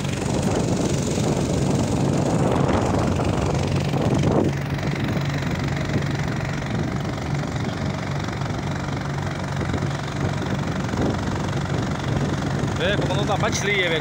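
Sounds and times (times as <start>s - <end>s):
boat engine droning: 0.0s - 14.0s
water washing along hull: 0.0s - 14.0s.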